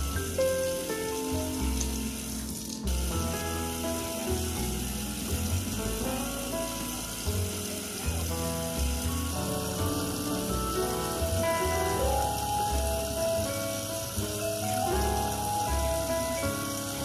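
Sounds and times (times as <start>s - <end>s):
background music: 0.0s - 17.0s
rain hiss: 0.0s - 17.0s.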